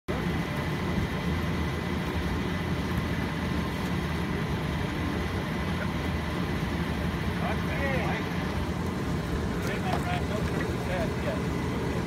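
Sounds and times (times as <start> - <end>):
low engine drone: 0.1 - 12.0.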